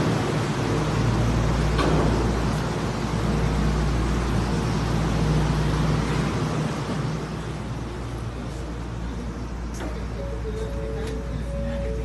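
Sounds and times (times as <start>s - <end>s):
standing train hum and drone: 0.0s - 12.0s.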